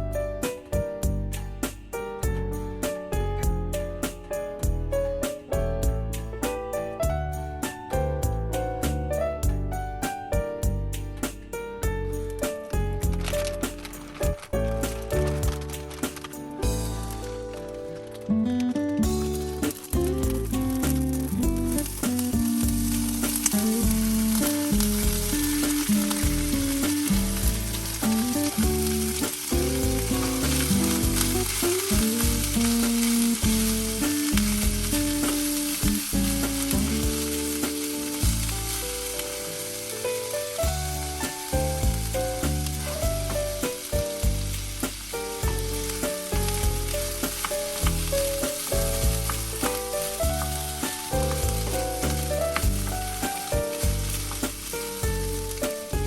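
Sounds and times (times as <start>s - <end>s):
background music with bass line: 0.0s - 39.8s, 40.4s - 56.0s
sizzling crackle: 0.1s - 56.0s.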